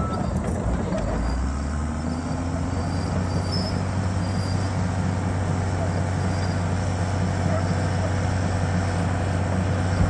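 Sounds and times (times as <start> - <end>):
bulldozer diesel engine under load: 0.0 - 10.0.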